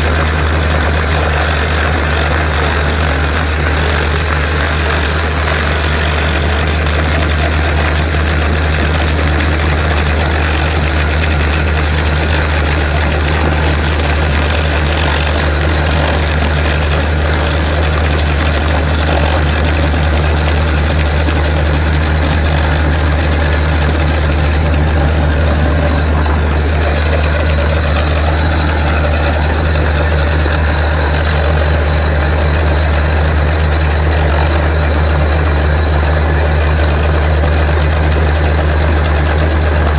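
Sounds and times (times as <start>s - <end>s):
diesel engine drone: 0.0s - 39.9s
thin high whine: 0.0s - 39.9s.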